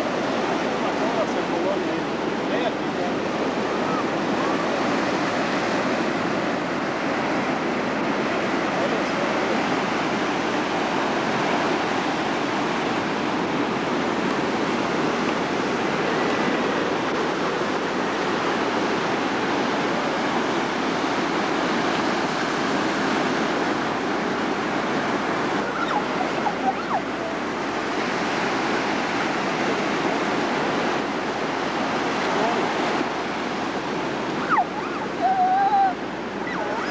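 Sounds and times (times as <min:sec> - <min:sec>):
ocean surf breaking on beach: 0:00.0 - 0:36.9.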